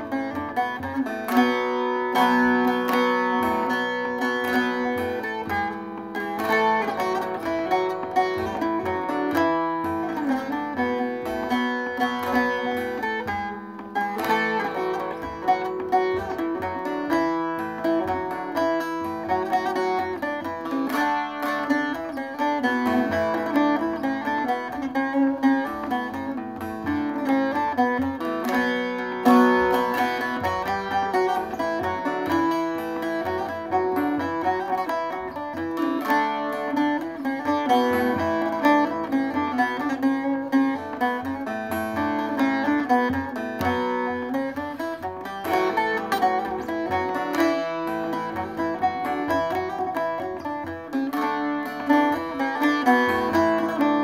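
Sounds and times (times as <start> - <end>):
long-necked lute folk melody: 0.0 - 54.0.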